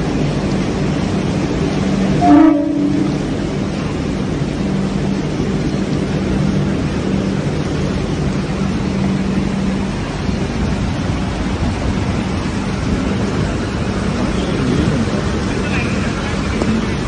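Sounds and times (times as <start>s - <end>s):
electric train humming: 0.0s - 17.0s
rain and water rushing: 0.0s - 17.0s.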